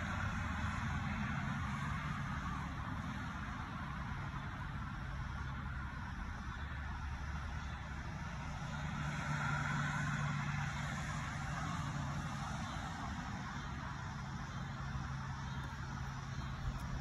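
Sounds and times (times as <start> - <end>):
motor traffic rumble: 0.0 - 17.0.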